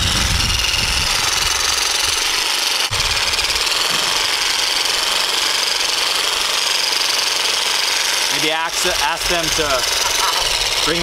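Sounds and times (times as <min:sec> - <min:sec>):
massage gun hammering buzz: 0:00.0 - 0:11.0.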